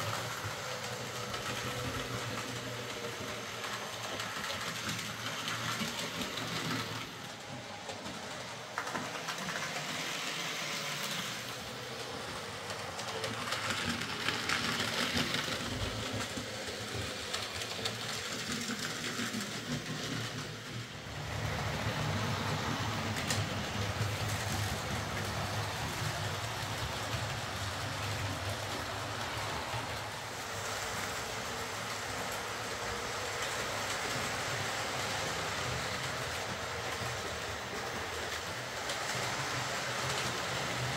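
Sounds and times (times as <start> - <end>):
wheels running on rails: 0.0 - 40.9.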